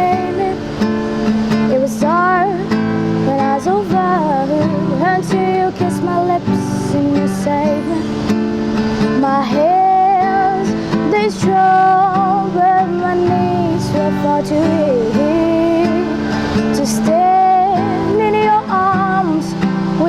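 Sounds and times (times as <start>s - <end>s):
strummed acoustic guitar: 0.0s - 20.0s
person singing long held notes: 1.7s - 8.2s, 9.1s - 20.0s.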